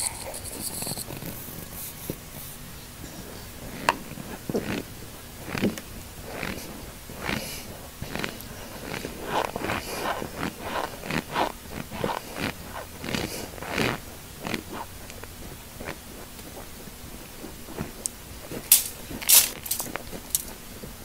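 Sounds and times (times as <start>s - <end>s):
chewing crunchy cornstarch: 0.0s - 21.0s.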